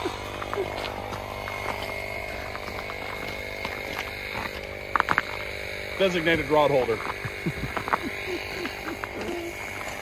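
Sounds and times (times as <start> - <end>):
motor droning with high whine: 0.0 - 10.0.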